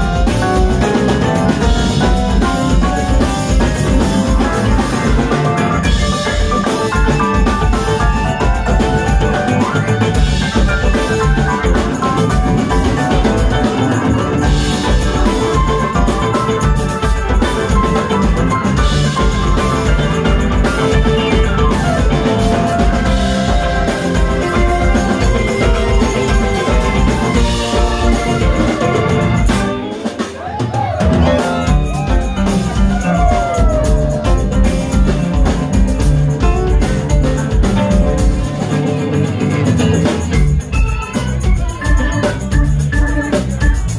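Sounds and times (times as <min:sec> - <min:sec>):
funk band playing: 0:00.0 - 0:43.9.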